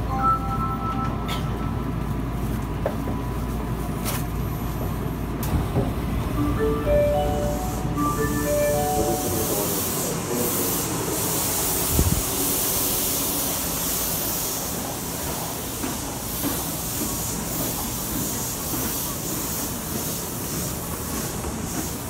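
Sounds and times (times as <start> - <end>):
subway platform rumble and hiss: 0.0 - 22.0.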